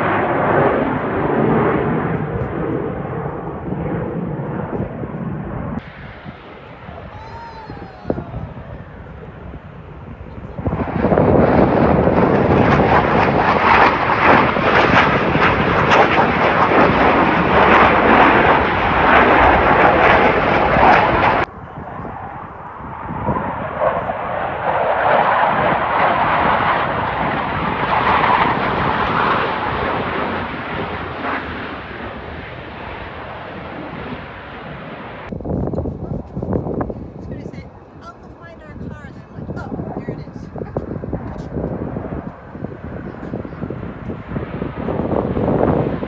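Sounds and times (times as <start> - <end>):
jets passing: 0.0 - 35.5, 36.6 - 46.0
jet engines roaring: 0.0 - 46.0.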